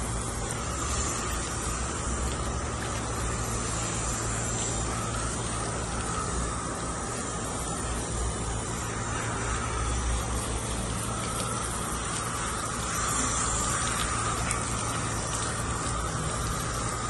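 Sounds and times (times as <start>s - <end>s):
hose nozzle spraying water: 0.0s - 17.0s.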